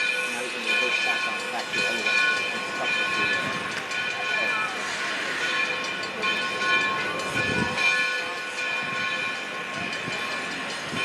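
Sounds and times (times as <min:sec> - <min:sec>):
locomotive running with high whine: 0:00.0 - 0:11.0.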